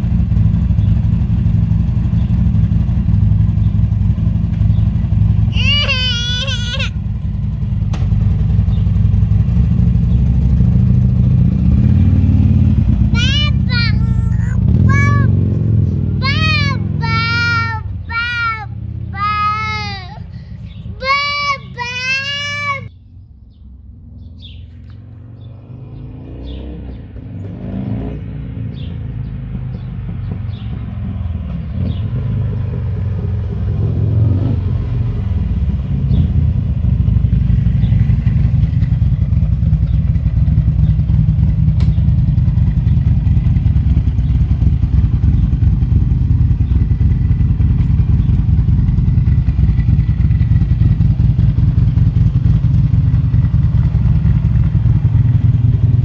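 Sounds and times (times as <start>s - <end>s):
motorcycle engine approaching: 0.0s - 56.0s.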